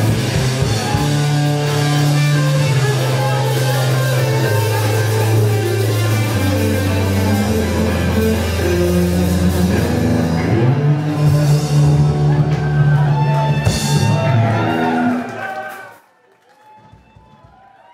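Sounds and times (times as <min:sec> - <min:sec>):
long held bass notes: 0:00.0 - 0:15.2
live rock band playing loudly: 0:00.0 - 0:15.3.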